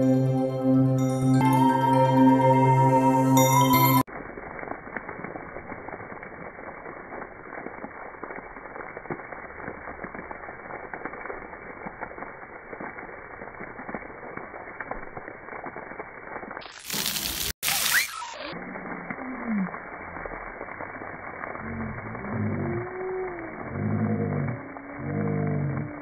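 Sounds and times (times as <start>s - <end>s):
water jets spattering on concrete: 4.0s - 26.0s.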